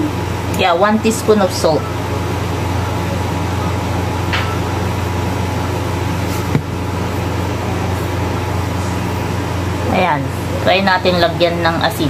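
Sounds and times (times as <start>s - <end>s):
low machine hum with hiss: 0.0s - 12.0s.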